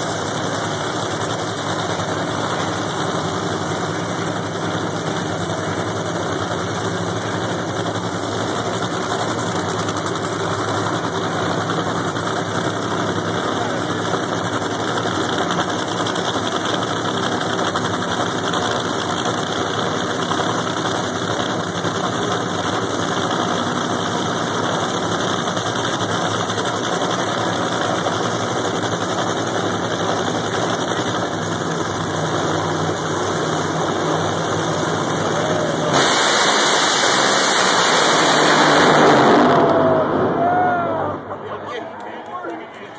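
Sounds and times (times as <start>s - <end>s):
engines idling with lumpy rumble: 0.0s - 42.9s.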